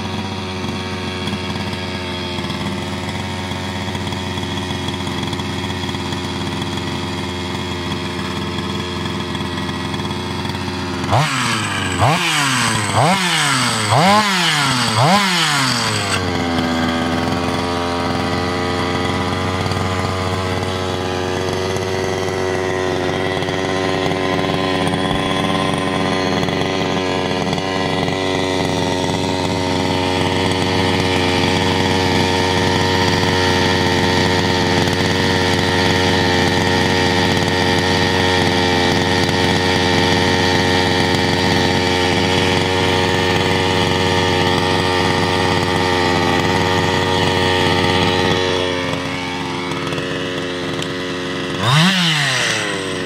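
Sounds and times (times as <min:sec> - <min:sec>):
two-stroke engine idling: 0:00.0 - 0:53.0.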